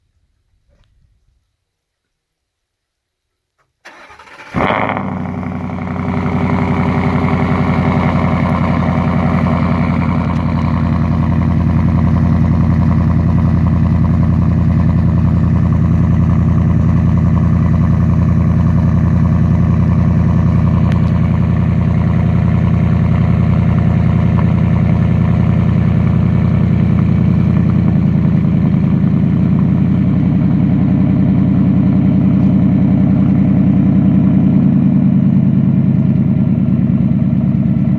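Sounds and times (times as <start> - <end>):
truck exhaust cold idle: 4.6 - 37.9.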